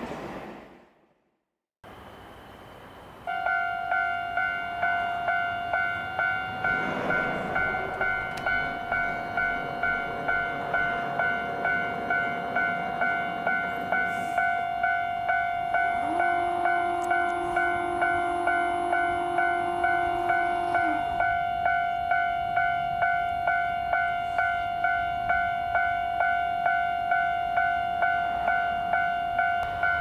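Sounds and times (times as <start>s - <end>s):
level-crossing warning bell: 1.9s - 30.0s.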